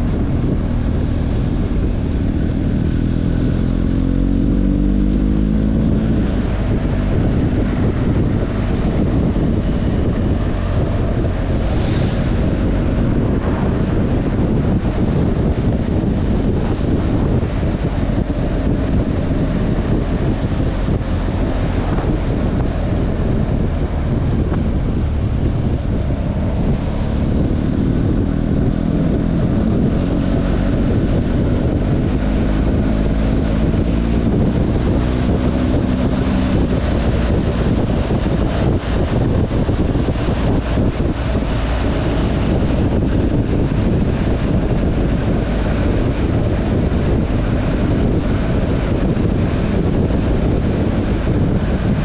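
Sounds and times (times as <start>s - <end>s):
motorcycle engine droning: 0.0s - 52.0s
wind buffeting camera: 0.0s - 52.0s.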